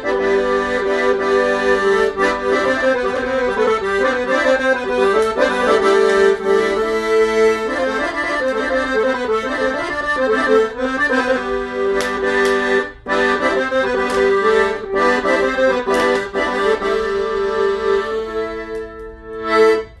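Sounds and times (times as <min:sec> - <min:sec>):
accordion playing dance tune: 0:00.0 - 0:20.0.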